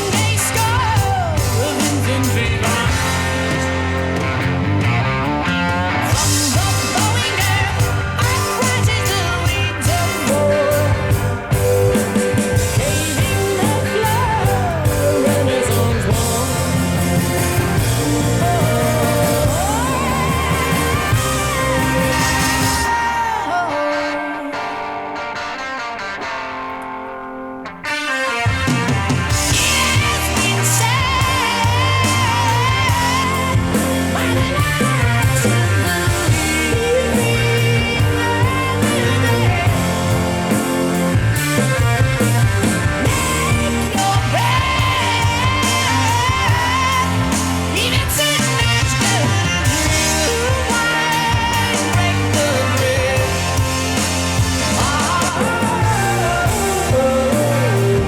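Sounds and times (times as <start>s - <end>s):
rock song over loudspeakers: 0.0s - 58.0s.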